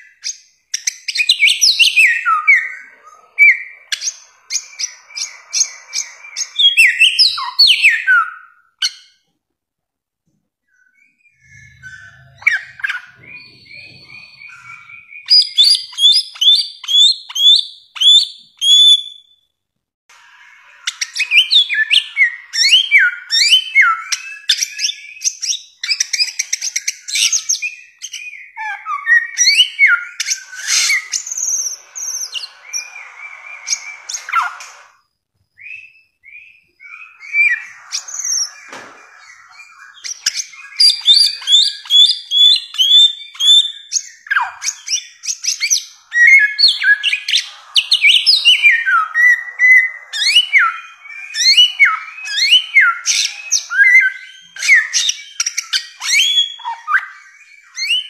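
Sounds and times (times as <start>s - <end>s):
bird whistling song: 0.0s - 9.2s, 10.6s - 19.5s, 20.2s - 58.0s.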